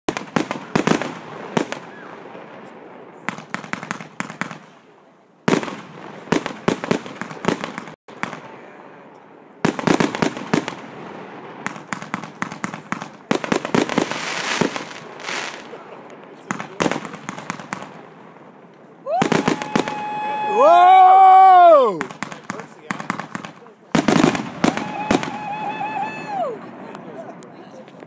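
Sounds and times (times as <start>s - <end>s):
fireworks bangs: 0.1s - 28.0s
fireworks crackling: 0.1s - 28.0s.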